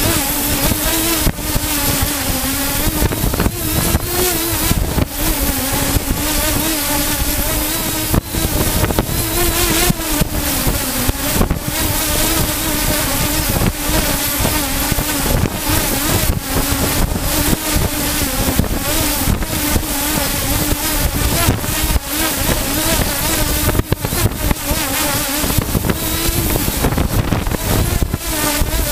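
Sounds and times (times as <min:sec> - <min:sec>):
aircraft propeller engine hum: 0:00.0 - 0:28.9
wind rush: 0:00.0 - 0:28.9.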